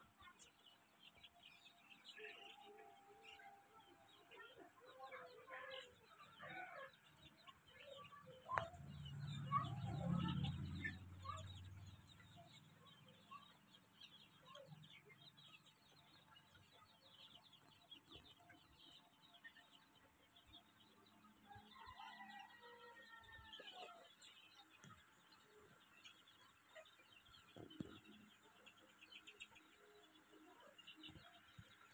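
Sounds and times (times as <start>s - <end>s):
chicks cheeping: 0.0s - 31.9s.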